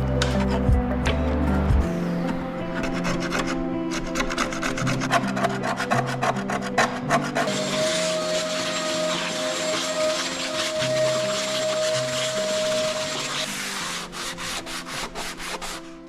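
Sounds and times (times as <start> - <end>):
sanding strokes: 2.6 - 16.0.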